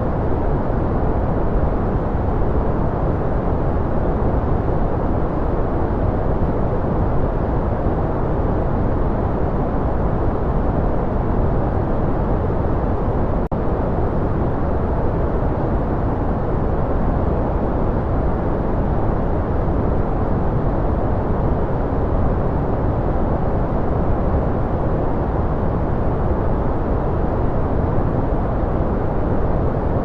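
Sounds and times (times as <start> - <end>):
deep white noise rush: 0.0 - 30.0.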